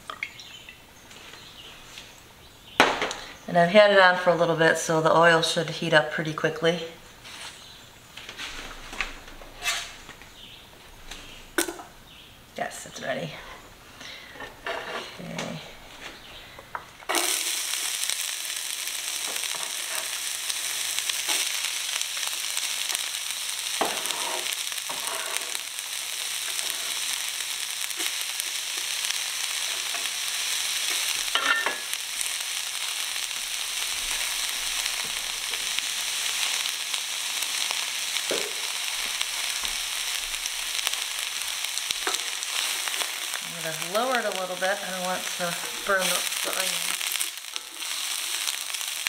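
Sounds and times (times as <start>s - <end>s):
onion sizzling in oil: 0.0s - 49.0s.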